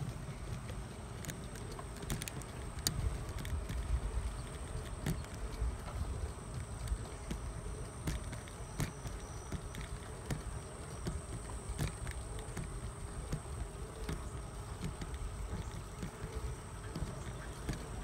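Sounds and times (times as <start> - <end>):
bicycle tyres rumbling on concrete: 0.0 - 18.0
bike clicks and rattles: 0.0 - 18.0.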